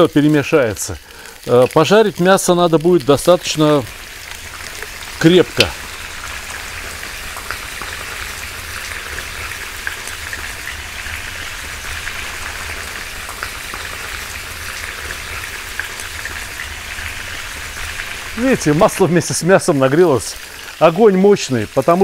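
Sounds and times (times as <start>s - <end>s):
meat sizzling in oil: 0.0s - 22.0s
oil popping: 0.0s - 22.0s.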